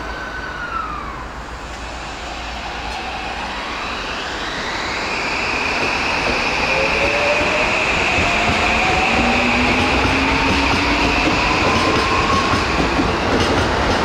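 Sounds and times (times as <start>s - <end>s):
train rumble: 0.0s - 14.0s
electric train motor whine: 1.2s - 13.2s.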